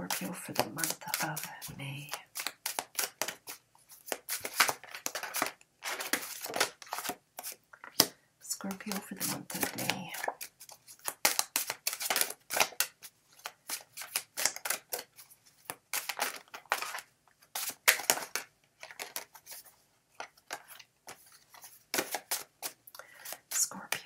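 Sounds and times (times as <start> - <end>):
cards being shuffled: 0.1 - 24.0.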